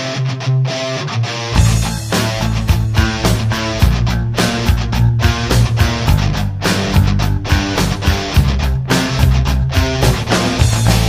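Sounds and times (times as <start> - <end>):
rock music with strummed guitar: 0.0 - 11.0
heavy low bass: 1.6 - 11.0.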